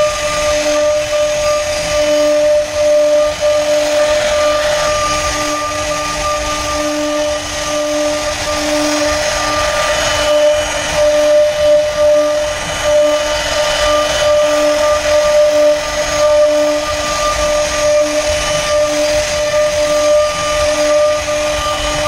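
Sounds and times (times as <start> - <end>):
power carving tool cutting wood: 0.0 - 22.0.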